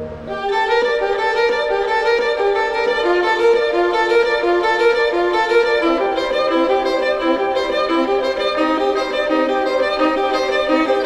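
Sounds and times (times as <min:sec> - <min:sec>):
violin playing quick melody: 0:00.0 - 0:11.0.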